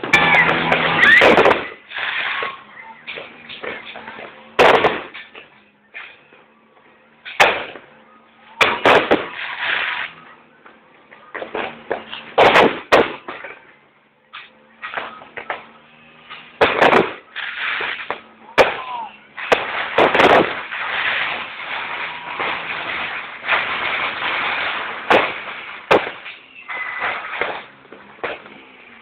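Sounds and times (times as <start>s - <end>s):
fireworks banging: 0.0s - 6.5s, 7.2s - 29.0s.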